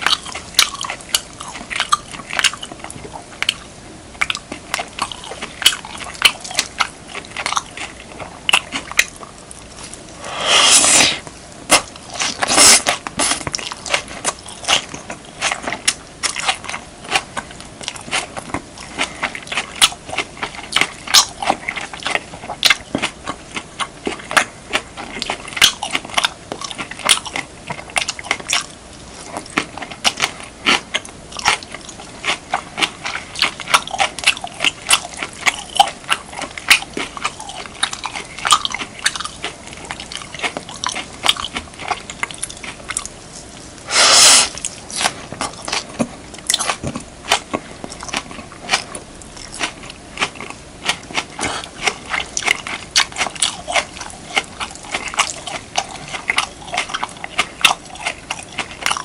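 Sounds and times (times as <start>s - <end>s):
wet chewing mouth sounds: 0.0s - 59.0s.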